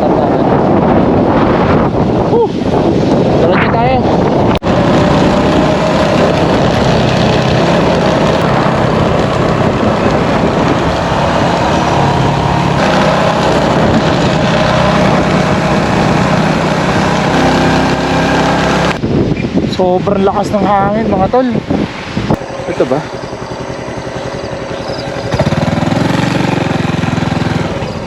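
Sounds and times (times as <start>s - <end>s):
motorcycle engine cruising: 0.0s - 28.0s
wind rushing over microphone: 0.0s - 28.0s.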